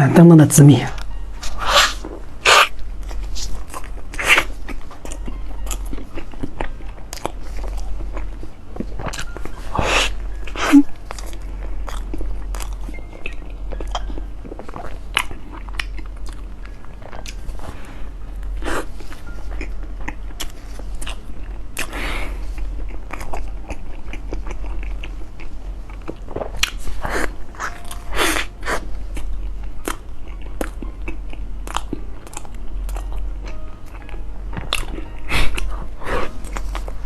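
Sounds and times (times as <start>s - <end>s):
steady low hum: 0.0s - 37.0s
person chewing bread: 1.4s - 37.0s.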